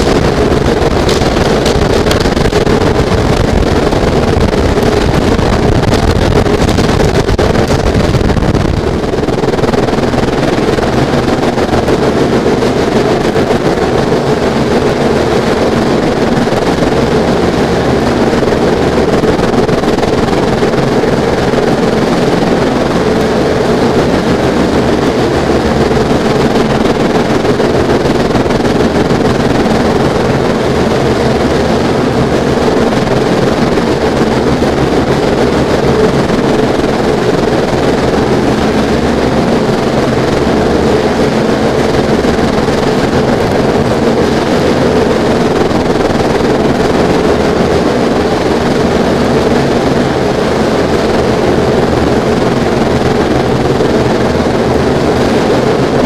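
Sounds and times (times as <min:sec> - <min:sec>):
heavy rain and wind on wood: 0:00.0 - 0:56.0.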